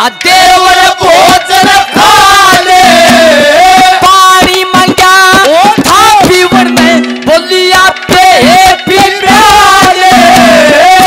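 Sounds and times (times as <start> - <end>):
instrumental accompaniment: 0.0 - 11.0
man singing into a microphone: 0.0 - 11.0.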